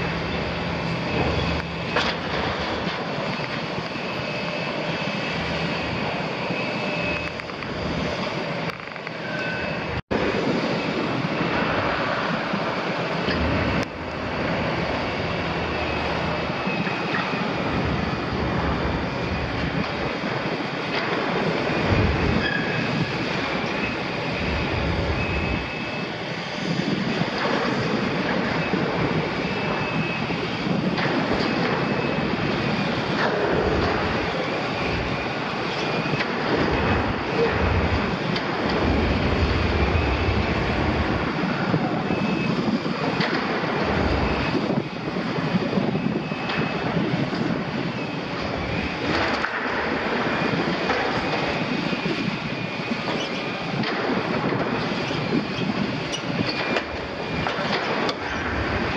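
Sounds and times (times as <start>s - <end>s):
diesel engine under load: 0.0s - 58.9s.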